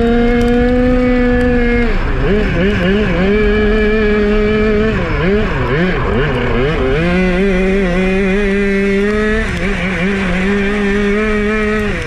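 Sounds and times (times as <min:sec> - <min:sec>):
kart engine at high revs: 0:00.0 - 0:12.0.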